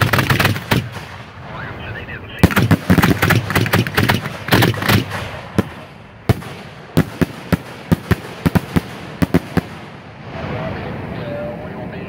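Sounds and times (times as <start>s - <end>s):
fireworks bangs: 0.0s - 11.6s
fireworks rumble: 0.0s - 12.0s.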